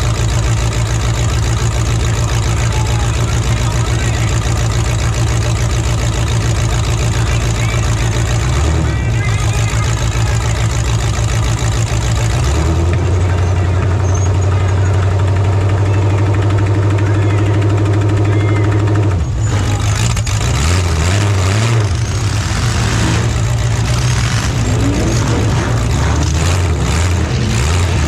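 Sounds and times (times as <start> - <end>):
truck engines running loud: 0.0 - 28.0.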